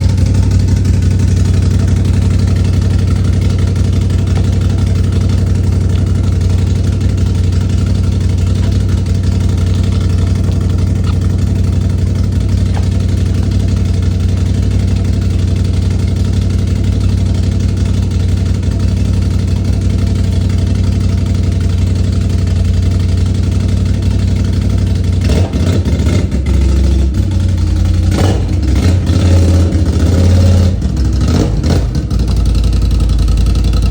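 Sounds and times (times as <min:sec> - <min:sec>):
engine throttle blips: 0:00.0 - 0:23.4, 0:24.5 - 0:33.9
atv engine idling: 0:00.0 - 0:33.9.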